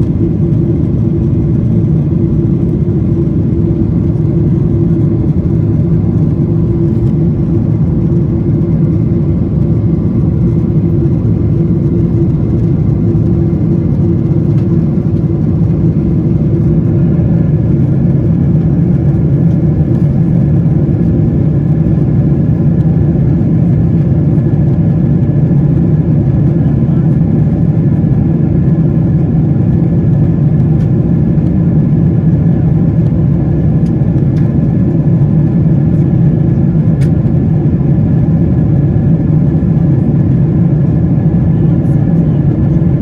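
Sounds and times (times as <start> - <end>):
airplane engines droning: 0.0 - 43.0.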